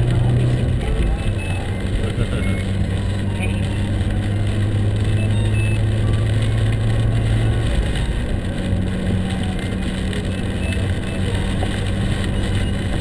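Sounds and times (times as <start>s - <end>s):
car engine drone: 0.0s - 13.0s
tyres hissing on wet pavement: 0.0s - 13.0s.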